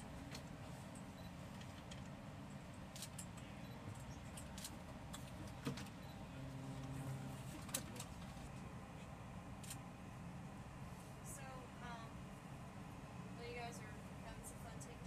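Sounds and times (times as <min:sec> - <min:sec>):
low rumble of jets: 0:00.0 - 0:15.0.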